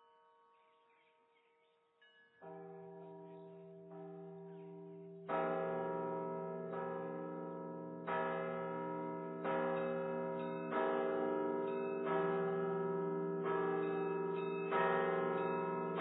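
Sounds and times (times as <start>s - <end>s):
church bells ringing: 2.0s - 16.0s.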